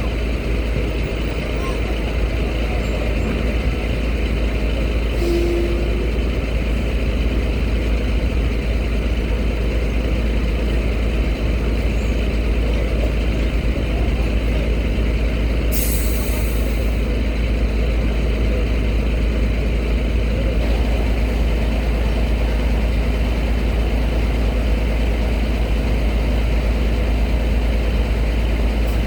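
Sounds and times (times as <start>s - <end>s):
truck engines rumbling: 0.0s - 29.0s.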